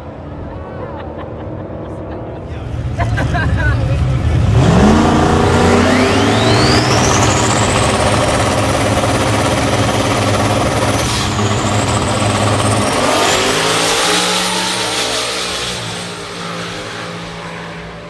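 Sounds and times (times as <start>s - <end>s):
drag racing car accelerating: 2.4s - 18.0s
high engine whine: 2.4s - 18.0s.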